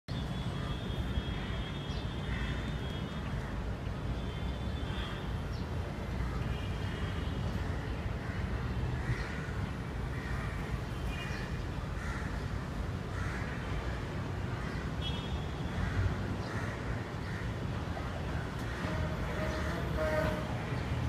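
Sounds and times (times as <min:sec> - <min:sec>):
low urban rumble: 0:00.2 - 0:21.0.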